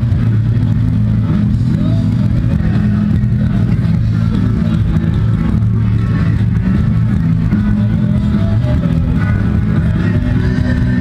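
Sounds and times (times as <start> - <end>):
crowd talking: 0.0 - 11.0
loud amplified music with bass: 0.0 - 11.0.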